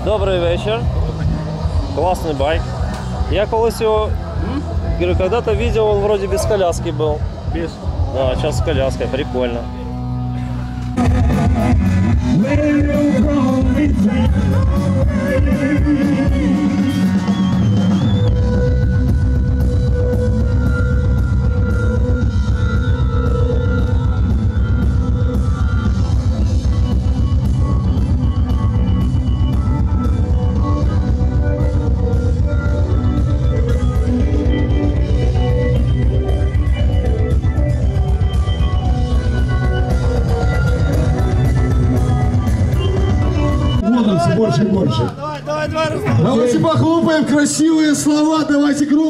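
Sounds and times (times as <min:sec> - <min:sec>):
loud rock music: 0:00.0 - 0:49.0.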